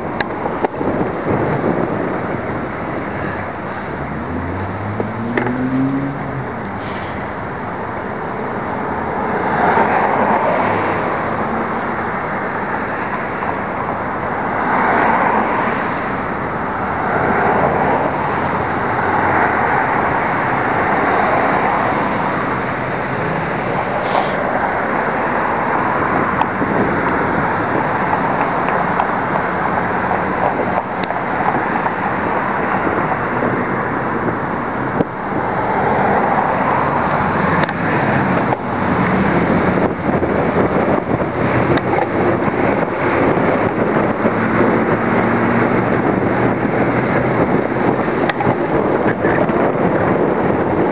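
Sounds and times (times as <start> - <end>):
car traffic: 0.0 - 50.9
wind rushing over microphone: 0.0 - 50.9.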